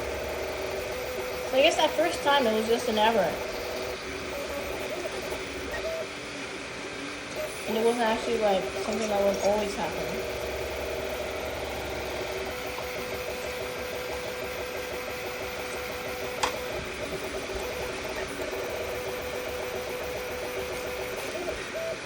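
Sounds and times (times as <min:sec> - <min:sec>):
stepper motors whirring: 0:00.0 - 0:06.1, 0:07.3 - 0:22.0.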